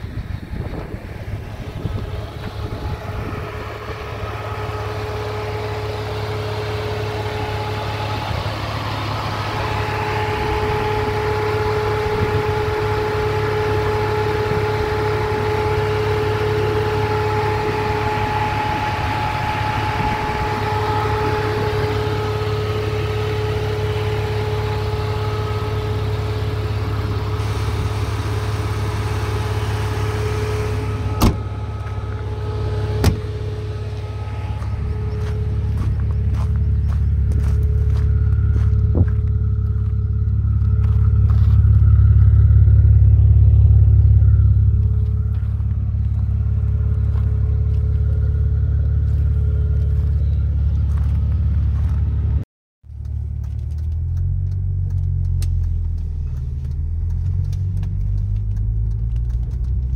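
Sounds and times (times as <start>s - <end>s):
car engine idling with whine: 0.0s - 59.9s.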